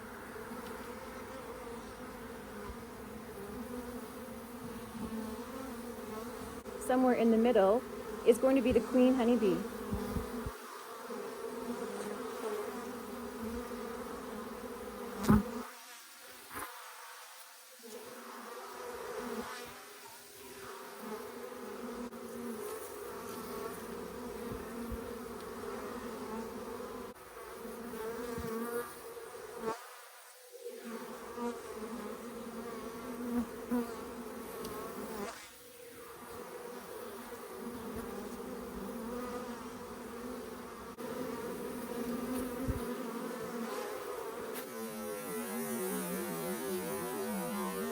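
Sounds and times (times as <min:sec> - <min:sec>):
honeybees buzzing: 0:00.0 - 0:47.9.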